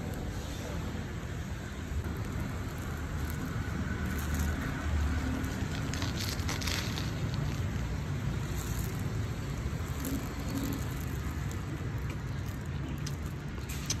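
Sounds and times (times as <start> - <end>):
road traffic rumble and hiss: 0.0 - 14.0.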